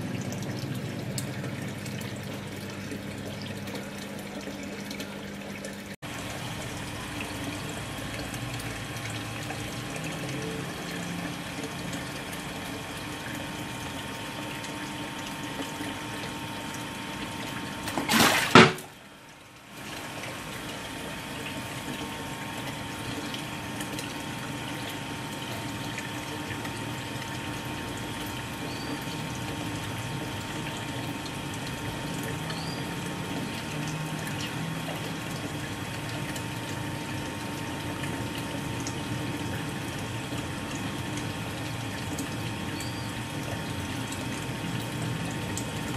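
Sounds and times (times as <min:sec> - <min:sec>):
aquarium water splashing: 0:00.0 - 0:45.9.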